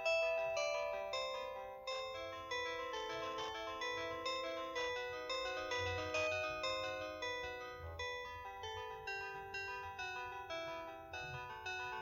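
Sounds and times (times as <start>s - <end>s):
phone melody ringtone: 0.0s - 12.0s.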